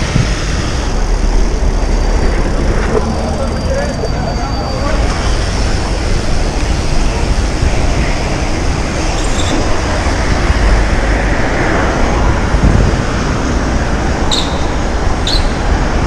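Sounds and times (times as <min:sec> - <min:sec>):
road noise: 0:00.0 - 0:16.0
wind rumble: 0:00.0 - 0:16.0.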